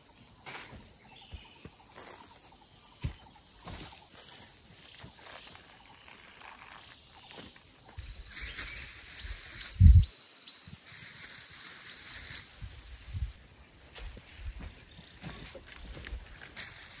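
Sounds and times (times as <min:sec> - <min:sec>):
insect chirping: 0:00.0 - 0:17.0.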